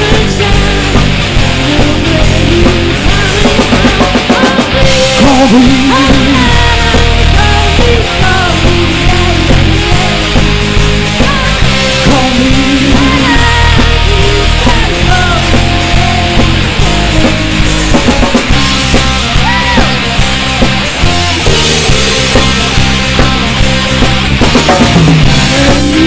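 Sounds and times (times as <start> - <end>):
loud rock music: 0.0 - 26.0.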